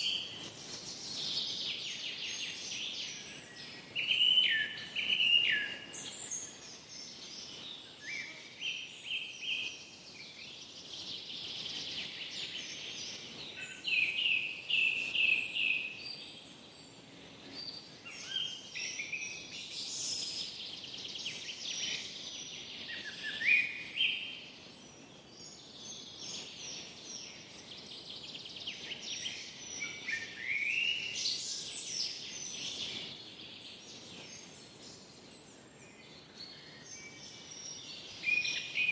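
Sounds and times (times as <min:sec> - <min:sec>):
birds singing: 0:00.0 - 0:38.9
faint steady hiss: 0:00.0 - 0:38.9.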